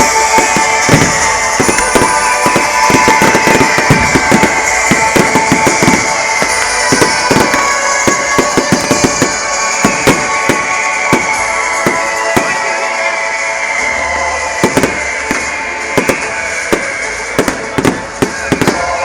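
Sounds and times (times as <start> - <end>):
fireworks bangs and pops: 0.0 - 13.8, 14.5 - 19.0
music: 0.0 - 19.0.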